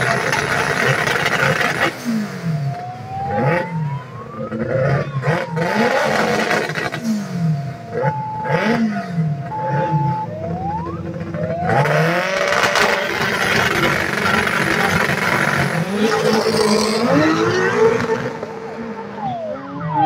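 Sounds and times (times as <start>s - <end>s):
racing engines revving: 0.0s - 20.0s.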